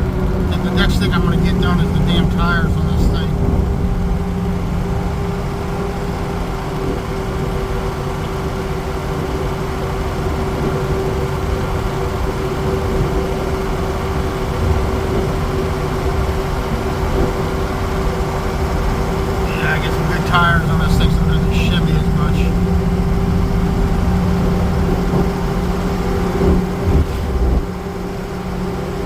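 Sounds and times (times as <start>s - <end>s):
van road and engine noise: 0.0s - 29.0s.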